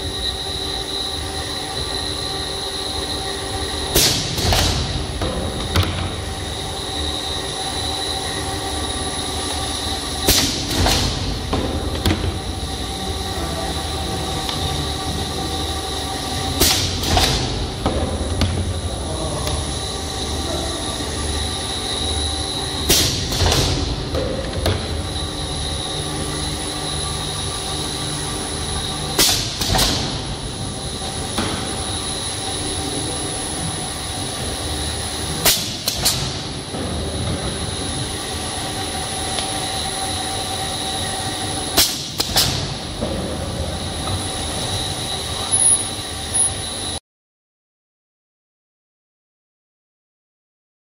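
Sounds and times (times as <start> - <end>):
high whine: 0.0 - 47.0
motor hum: 0.0 - 47.0.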